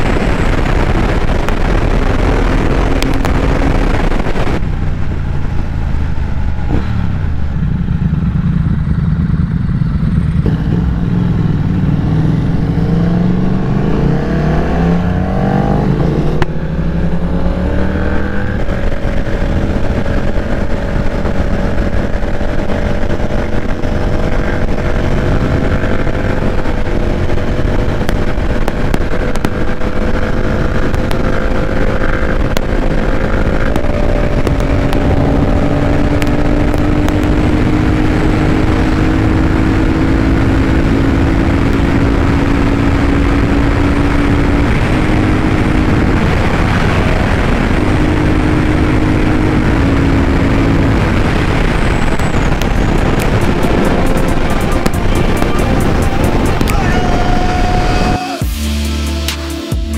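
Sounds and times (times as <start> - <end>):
wind rushing: 0.0 - 8.2, 10.9 - 59.0
motorcycle engine accelerating: 0.0 - 59.9.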